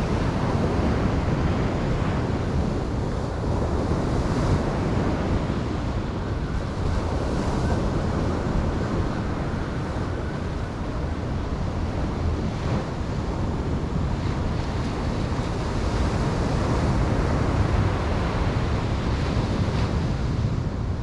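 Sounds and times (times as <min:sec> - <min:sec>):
waves breaking on beach: 0:00.0 - 0:21.0
wind on microphone: 0:00.0 - 0:21.0.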